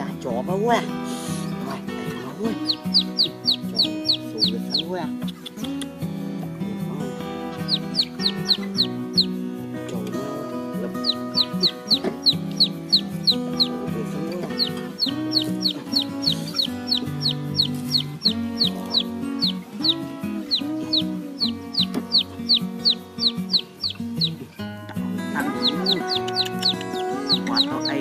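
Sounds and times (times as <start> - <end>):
background music: 0.0 - 28.0
chick peeping: 2.4 - 5.9, 7.4 - 24.5, 25.3 - 28.0.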